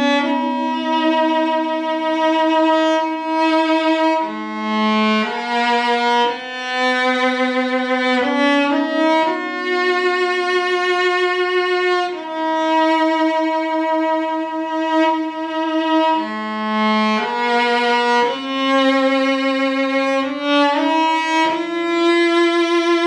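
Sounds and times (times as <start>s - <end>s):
solo cello melody: 0.0s - 23.0s.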